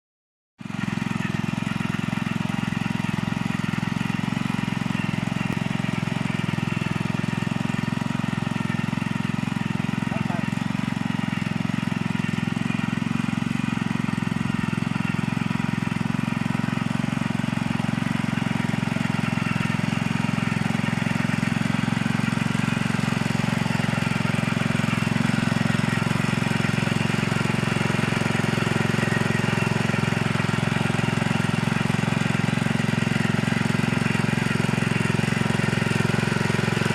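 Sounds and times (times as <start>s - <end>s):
tiller engine droning: 0.6s - 36.9s.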